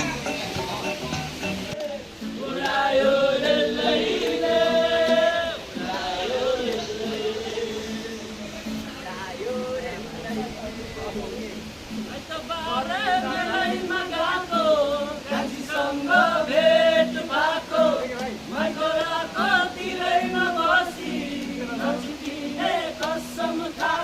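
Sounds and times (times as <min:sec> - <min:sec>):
group of people singing: 0:01.8 - 0:11.0, 0:12.1 - 0:24.0.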